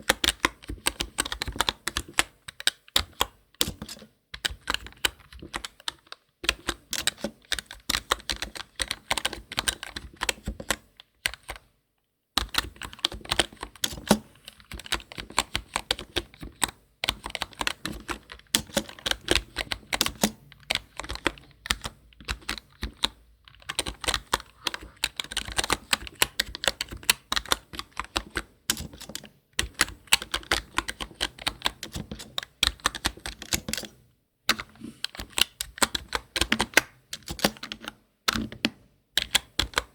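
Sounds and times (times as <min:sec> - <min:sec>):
computer keyboard typing: 0:00.0 - 0:11.7, 0:12.4 - 0:39.9.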